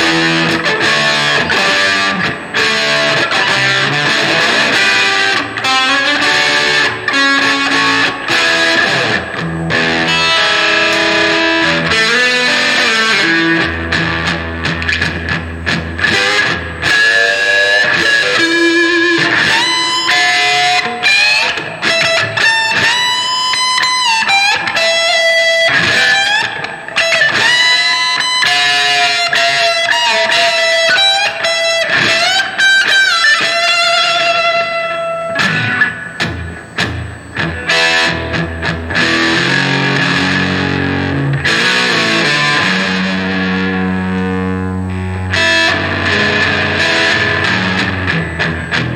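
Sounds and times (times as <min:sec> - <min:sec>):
electric guitar with reverb: 0:00.0 - 0:48.9.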